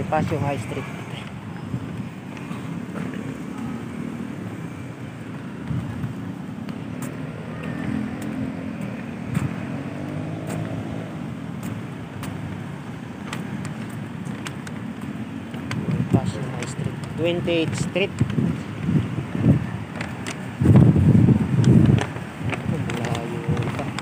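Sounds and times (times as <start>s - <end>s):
cars passing: 0.0s - 24.0s.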